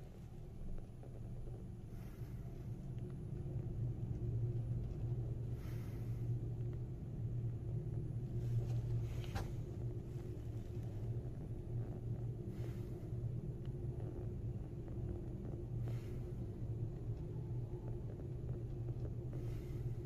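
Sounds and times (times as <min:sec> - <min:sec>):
elevator car hum and rumble: 0:00.0 - 0:20.0.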